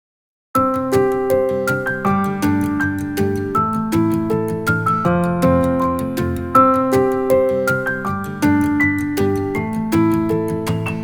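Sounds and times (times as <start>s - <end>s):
sustained keyboard notes: 0.6s - 11.0s.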